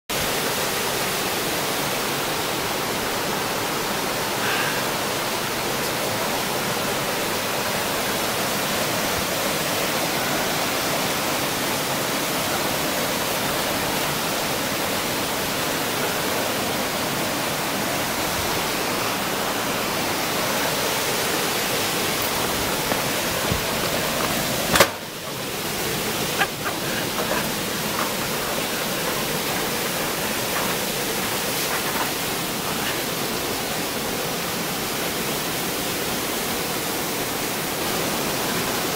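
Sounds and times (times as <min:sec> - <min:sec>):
stream rushing over boulders: 0:00.1 - 0:38.9.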